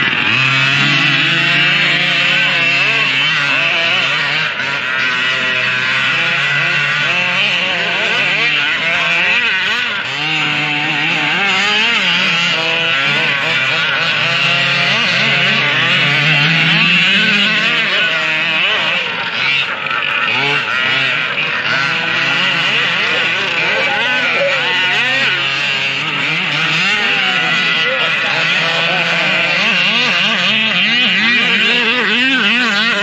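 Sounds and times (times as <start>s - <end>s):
small two-stroke engines buzzing: 0.0s - 33.0s.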